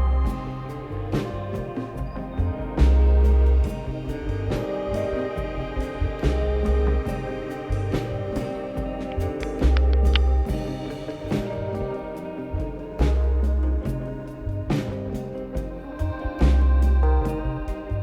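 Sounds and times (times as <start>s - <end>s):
music with drums and melody: 0.0s - 18.0s.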